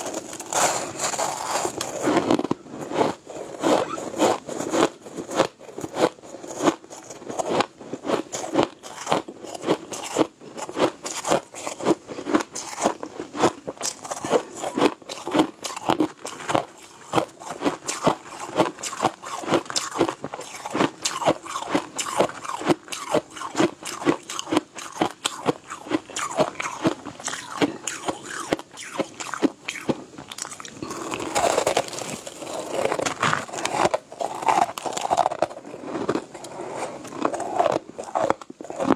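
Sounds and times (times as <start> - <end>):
ice crunching in mouth: 0.0 - 38.9.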